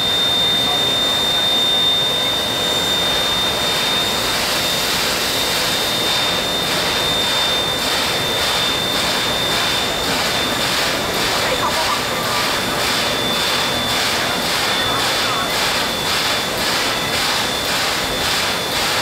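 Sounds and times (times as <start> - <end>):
locomotive steam chuffs: 0.0 - 19.0
steam hissing: 0.0 - 19.0
thin steady whistling tone: 0.0 - 19.0.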